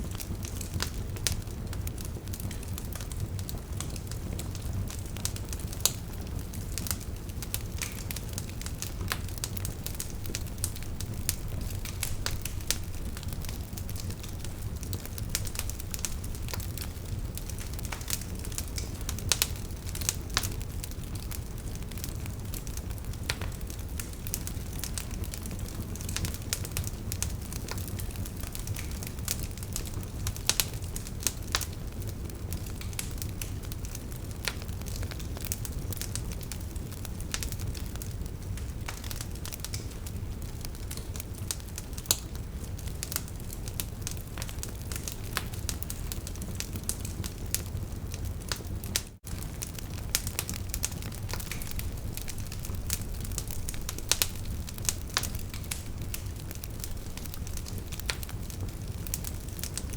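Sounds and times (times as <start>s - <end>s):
low rumble of flame: 0.0s - 59.9s
crackles and pops from logs: 0.1s - 59.9s.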